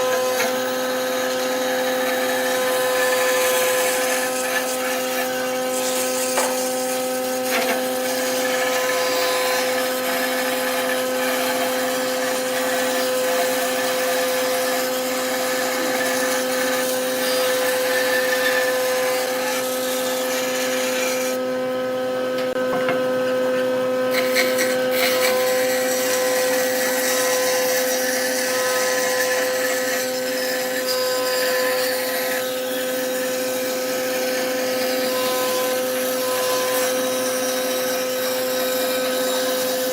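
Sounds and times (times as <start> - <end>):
turning tool cutting wood: 0.0 - 39.9
wood lathe motor humming: 0.0 - 39.9.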